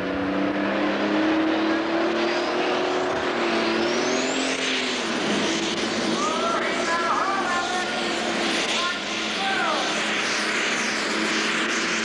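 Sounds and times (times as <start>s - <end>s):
diesel engine under load: 0.0s - 12.0s
high whine: 0.0s - 12.0s.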